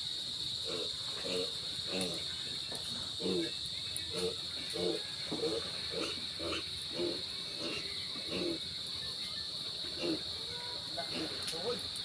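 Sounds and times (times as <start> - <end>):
high insect chorus: 0.0 - 12.0.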